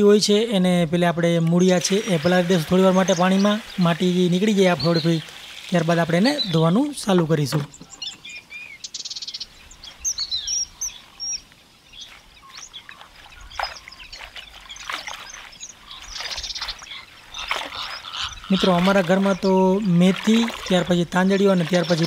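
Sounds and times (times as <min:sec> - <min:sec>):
small birds chirping: 0:00.3 - 0:22.0
water splashing and sloshing: 0:01.4 - 0:08.3, 0:09.4 - 0:22.0.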